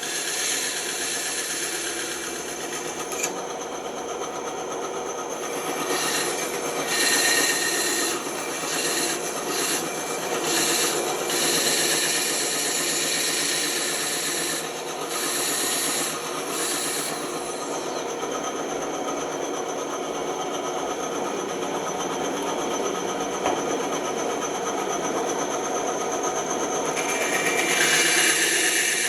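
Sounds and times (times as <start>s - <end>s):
woodworking power tool grinding: 0.0s - 29.0s.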